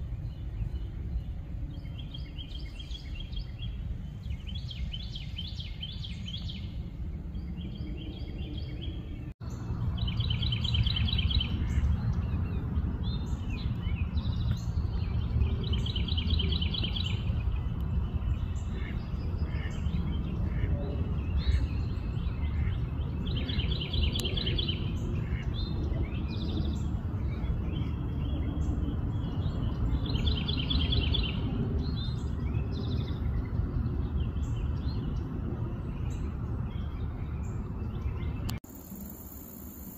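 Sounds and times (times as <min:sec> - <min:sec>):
low outdoor rumble: 0:00.0 - 0:38.6.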